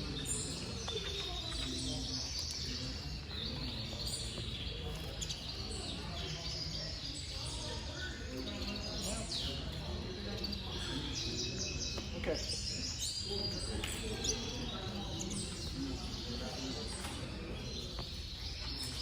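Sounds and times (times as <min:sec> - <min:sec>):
canaries chirping and twittering: 0:00.0 - 0:19.0.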